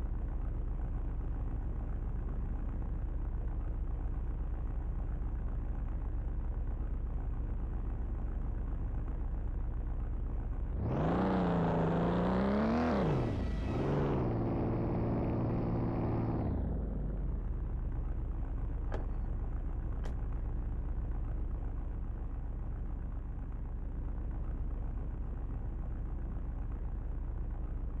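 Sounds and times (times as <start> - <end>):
engine idling and revving: 0.0 - 28.0.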